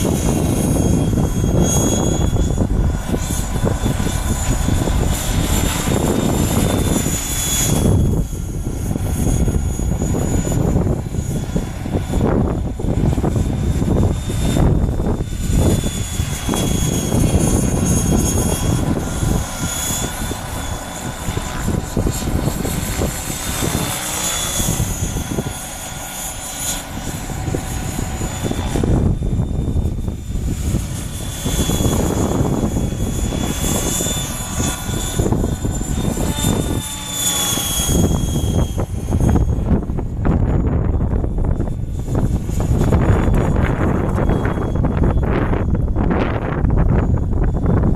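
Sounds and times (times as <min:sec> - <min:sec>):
low rotor rumble: 0:00.0 - 0:47.9
model helicopter motor whine: 0:00.0 - 0:47.9.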